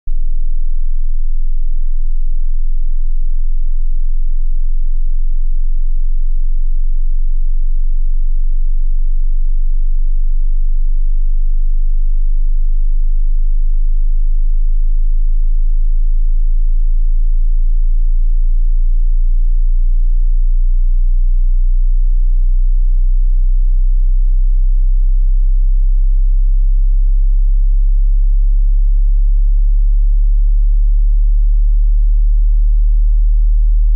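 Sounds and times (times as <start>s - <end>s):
low sine wave tone rising: 0.1s - 33.9s.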